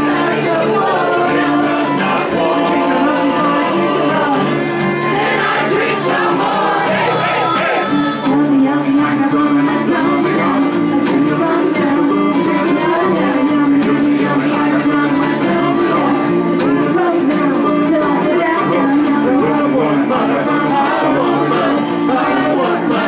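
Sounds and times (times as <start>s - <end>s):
fiddle: 0.0s - 23.0s
people singing: 0.0s - 23.0s
strummed acoustic guitar: 0.0s - 23.0s.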